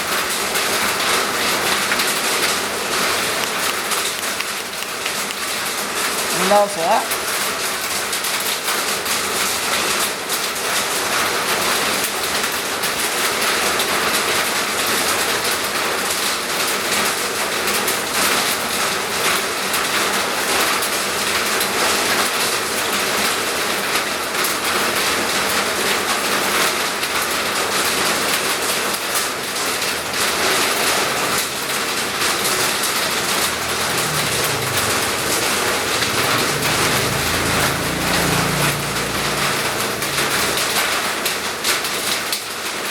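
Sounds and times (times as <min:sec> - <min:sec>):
heavy rain: 0:05.9 - 0:42.9.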